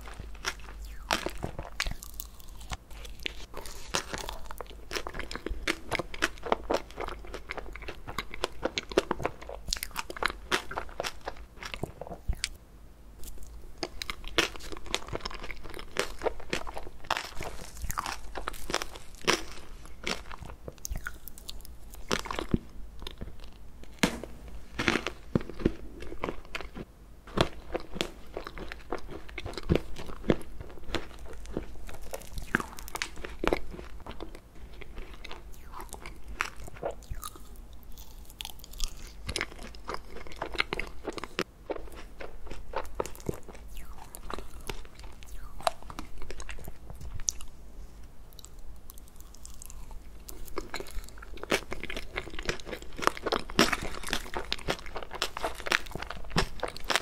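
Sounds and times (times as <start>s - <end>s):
chewing: 0.0s - 12.6s, 13.2s - 23.6s, 24.8s - 47.6s, 48.3s - 57.0s.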